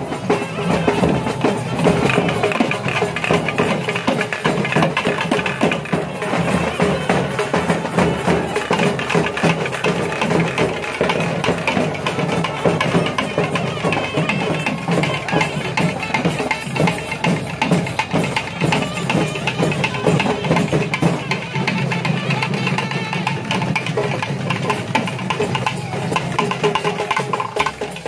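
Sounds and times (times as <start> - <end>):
rhythmic drumming and percussion: 0.0 - 28.0.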